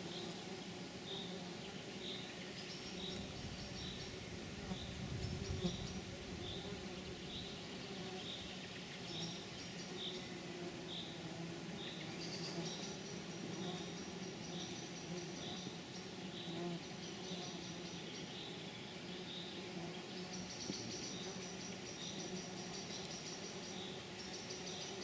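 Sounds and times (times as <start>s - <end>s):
low buzz of flying insects: 0.0s - 25.0s.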